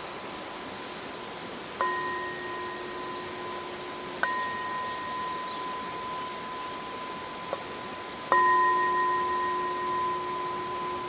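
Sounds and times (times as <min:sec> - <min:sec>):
stream rushing: 0:00.0 - 0:11.0
singing bowl ringing: 0:01.8 - 0:11.0.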